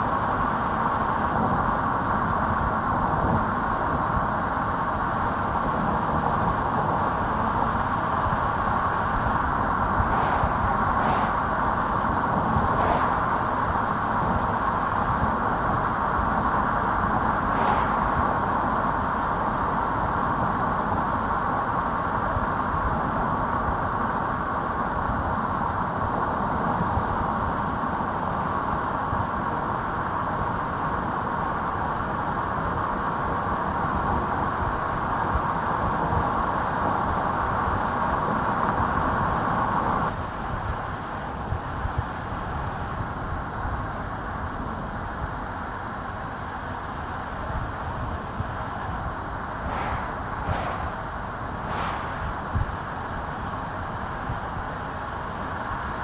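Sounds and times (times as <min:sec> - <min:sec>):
tyre and road noise: 0:00.0 - 0:24.4, 0:35.0 - 0:56.0
low engine hum: 0:00.0 - 0:56.0.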